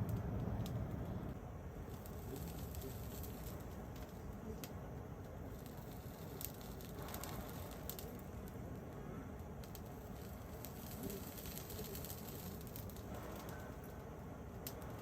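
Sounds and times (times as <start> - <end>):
campfire crackling and popping: 0.0 - 15.0
low background noise: 0.0 - 15.0.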